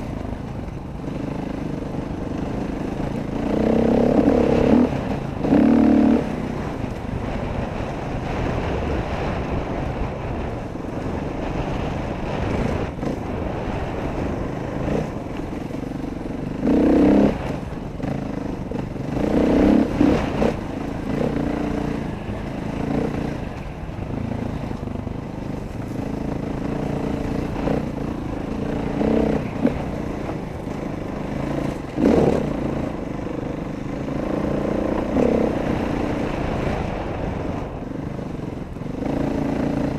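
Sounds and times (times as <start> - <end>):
steady rushing noise: 0.0 - 39.9
dirt bike engine revving: 1.0 - 9.3, 11.4 - 37.6, 38.6 - 39.9.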